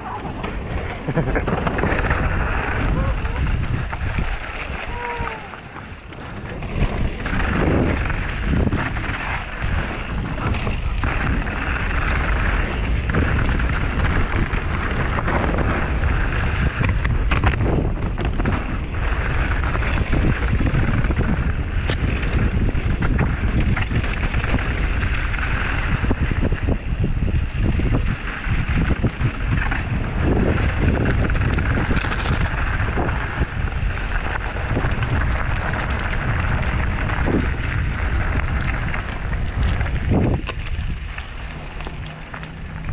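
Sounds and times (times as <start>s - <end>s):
bike knocking and rattling: 0.0s - 42.9s
tyres rumbling over gravel: 0.0s - 42.9s
wind rushing over microphone: 0.0s - 42.9s.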